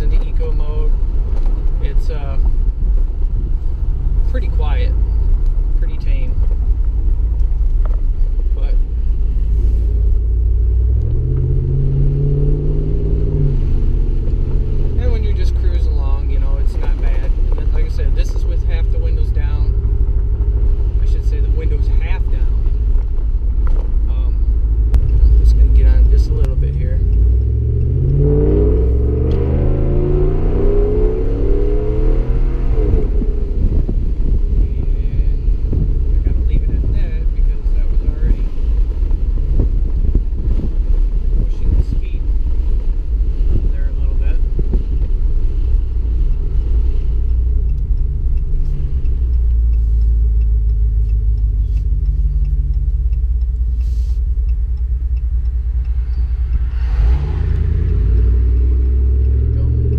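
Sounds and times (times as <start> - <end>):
deep exhaust drone: 0.0 - 59.9
truck engine accelerating: 1.1 - 59.9.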